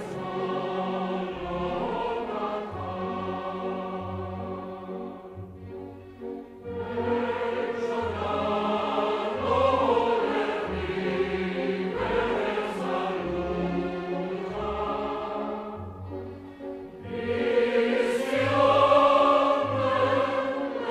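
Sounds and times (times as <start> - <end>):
choir singing sustained chords: 0.0 - 20.9.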